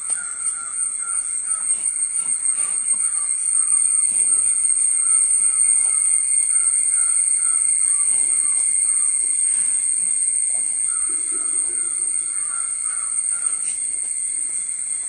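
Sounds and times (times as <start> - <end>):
insects droning: 0.0 - 15.0
rhythmic pulsing chirp: 0.0 - 15.0.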